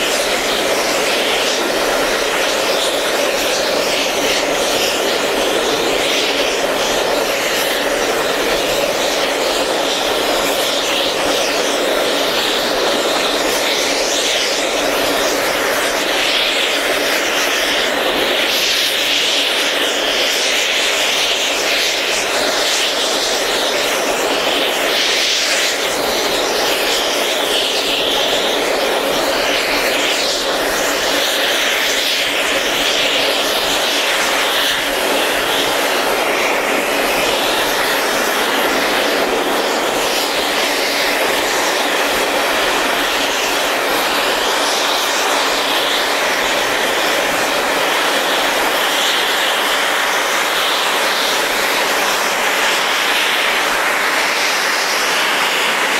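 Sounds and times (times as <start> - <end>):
rushing wind: 0.0 - 55.9
train running noise: 0.0 - 55.9.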